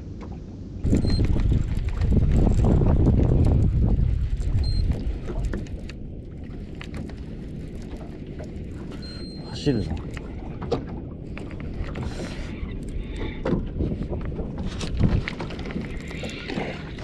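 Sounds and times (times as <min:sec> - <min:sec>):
rumbling wind on microphone: 0:00.0 - 0:17.0.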